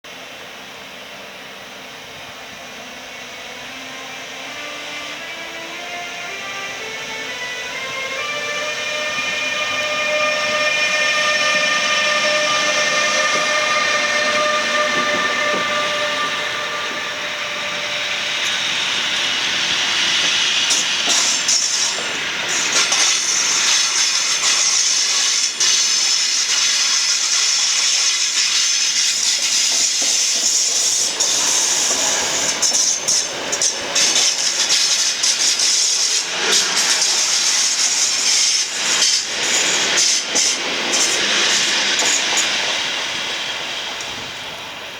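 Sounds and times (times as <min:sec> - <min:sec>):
high hiss: 0:00.1 - 0:44.9
train whine: 0:00.1 - 0:44.9.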